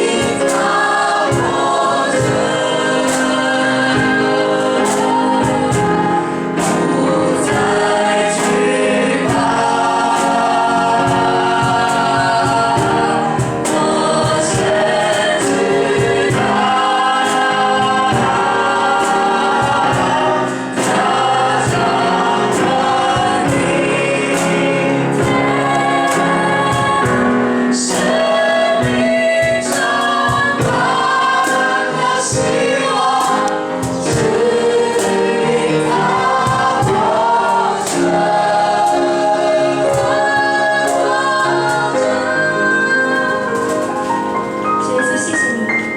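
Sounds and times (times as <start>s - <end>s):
choir singing worship song: 0.0s - 45.9s
musical accompaniment: 0.0s - 45.9s.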